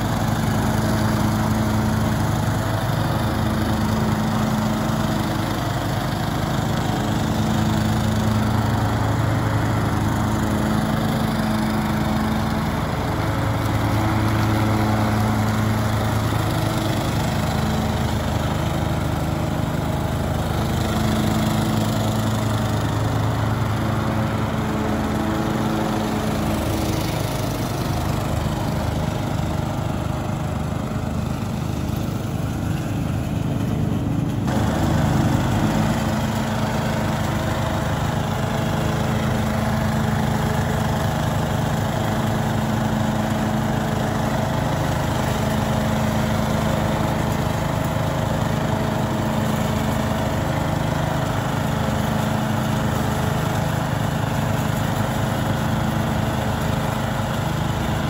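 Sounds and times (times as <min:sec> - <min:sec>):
leaf vacuum blower: 0:00.0 - 0:58.0
riding mower engine running: 0:00.0 - 0:58.0.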